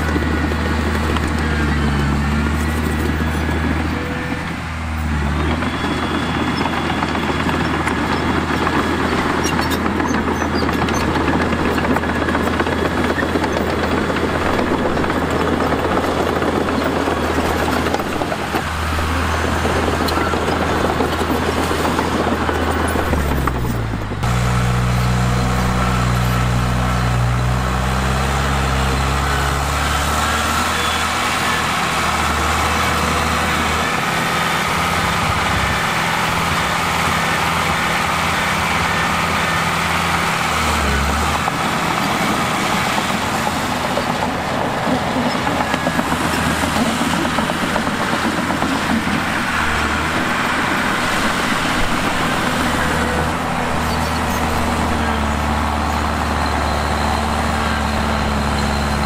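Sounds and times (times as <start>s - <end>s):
diesel engines running under load: 0.0s - 59.0s.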